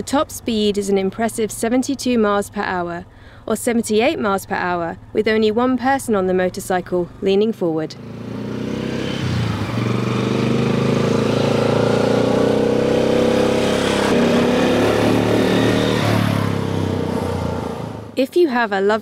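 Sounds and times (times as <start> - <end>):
motorcycle engine passing: 0.5 - 18.2.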